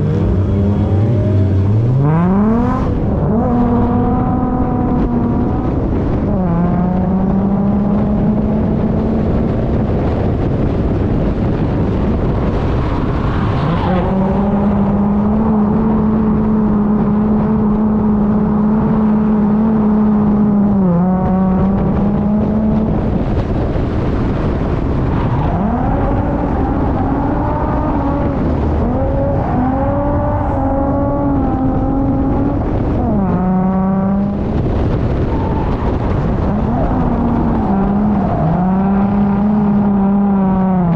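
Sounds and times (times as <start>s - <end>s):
car engine at high revs: 0.0s - 40.9s.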